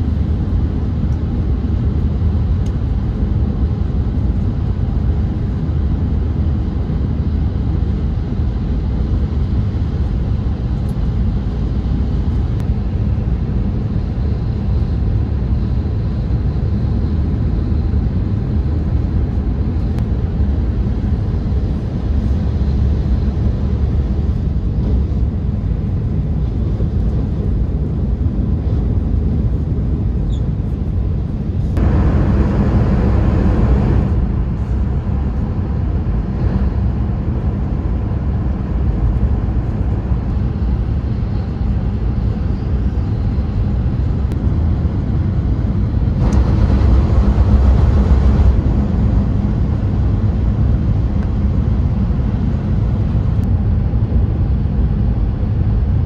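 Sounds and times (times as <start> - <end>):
high-speed train rumble: 0.0 - 56.0.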